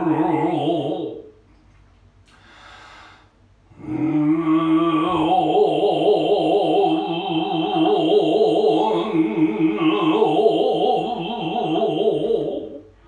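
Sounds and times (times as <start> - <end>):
person chanting long wavering note: 0.0 - 1.3, 3.7 - 13.0.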